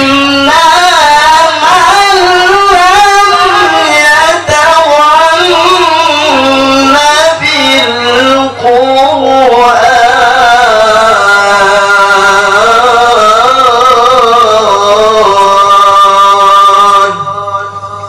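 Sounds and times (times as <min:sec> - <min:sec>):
man chanting into microphone: 0:00.0 - 0:18.0
steady low hum: 0:00.0 - 0:18.0.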